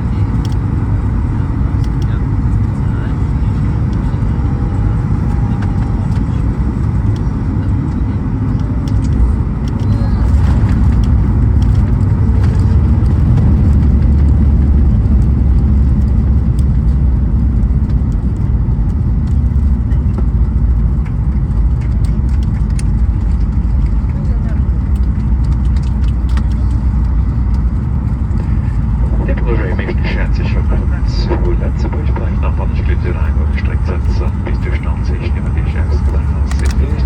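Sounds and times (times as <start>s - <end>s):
airplane cabin engine rumble: 0.0s - 37.0s.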